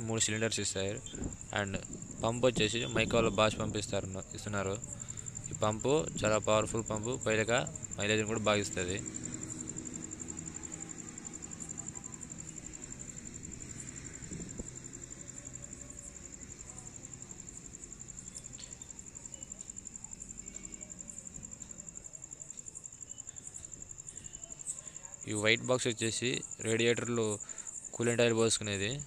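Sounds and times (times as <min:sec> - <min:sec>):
cricket trilling: 0:00.0 - 0:29.0
faint low hum: 0:00.0 - 0:29.0.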